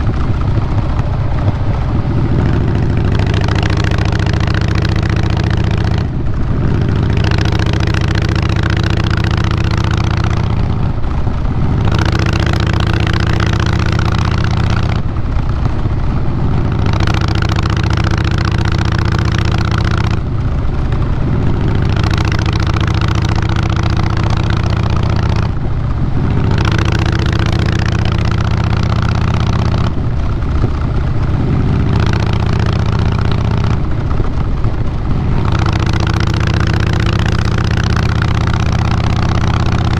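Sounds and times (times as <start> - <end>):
motorcycle engine exhaust: 0.0 - 39.9.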